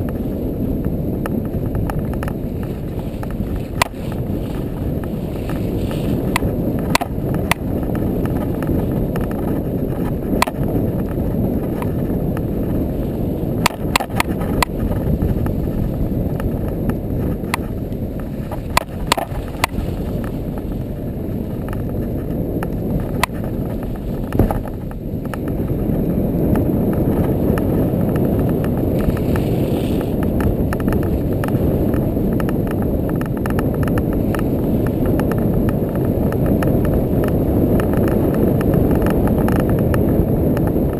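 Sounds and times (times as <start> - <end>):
quad engine and tyre rumble: 0.0 - 40.9.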